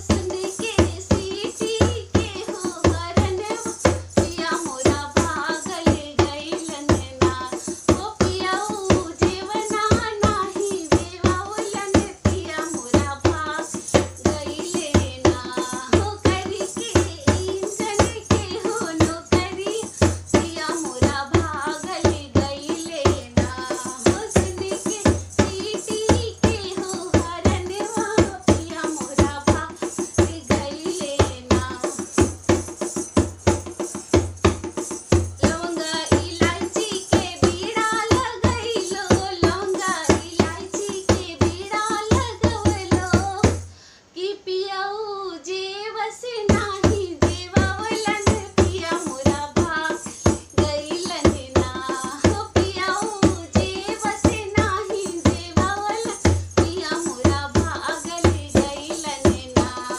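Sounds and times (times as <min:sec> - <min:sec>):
drum beat: 0:00.0 - 0:43.7, 0:46.5 - 0:59.9
tambourine jingles: 0:00.0 - 0:43.8, 0:46.3 - 0:59.9
woman singing: 0:00.0 - 0:59.9.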